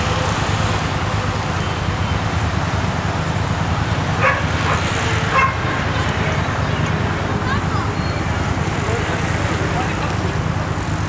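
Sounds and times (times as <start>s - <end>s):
street rumble: 0.0s - 11.0s.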